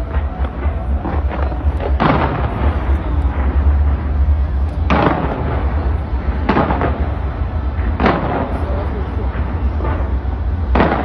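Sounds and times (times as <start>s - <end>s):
firework booms: 0.0s - 11.0s
fireworks rumble and crackle: 0.0s - 11.0s.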